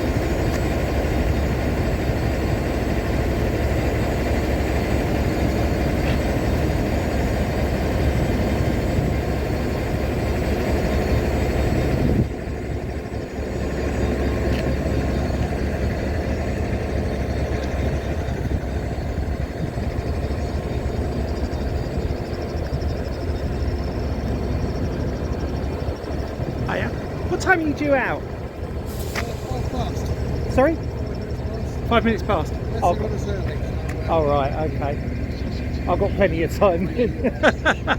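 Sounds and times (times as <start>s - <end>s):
diesel locomotive engine idling: 0.0s - 37.9s.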